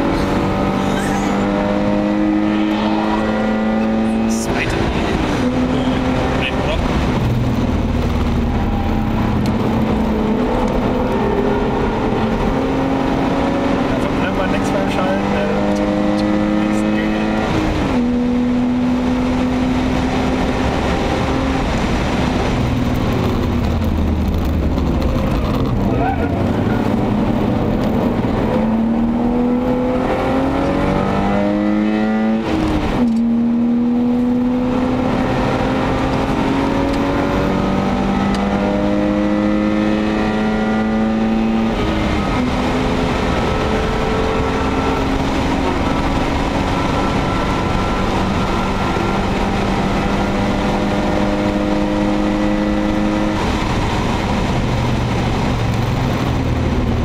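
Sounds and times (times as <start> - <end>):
car engine accelerating through gears: 0.0 - 57.0.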